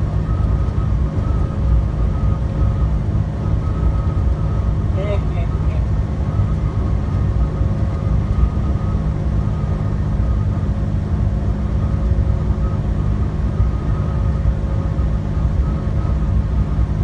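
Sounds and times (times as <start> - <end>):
constant hum: 0.0 - 17.0
engine and tyres rumbling: 0.0 - 17.0.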